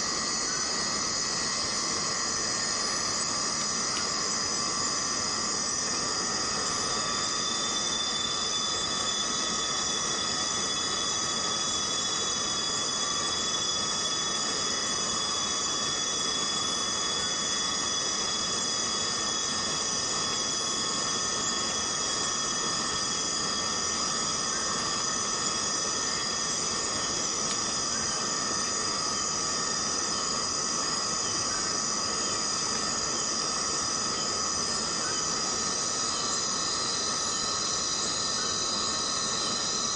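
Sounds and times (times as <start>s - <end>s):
cicadas buzzing: 0.0s - 39.9s
fainter lower buzz: 0.0s - 39.9s.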